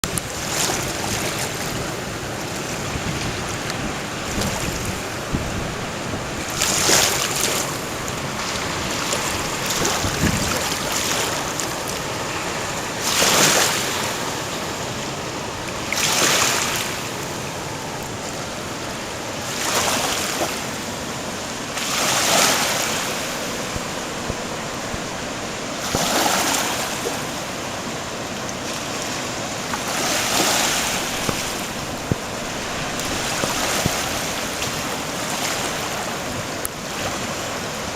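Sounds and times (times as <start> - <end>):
wind and water rushing: 0.0 - 37.9.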